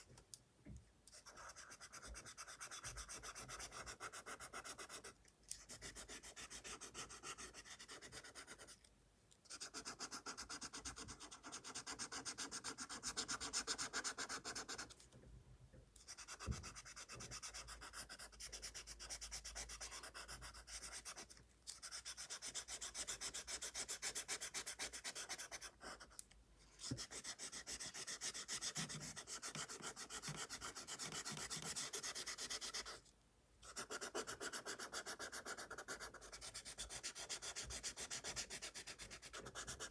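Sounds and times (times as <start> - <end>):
colored pencil scratching on paper: 1.1 - 8.9, 9.5 - 15.0, 16.0 - 26.2, 26.8 - 39.9.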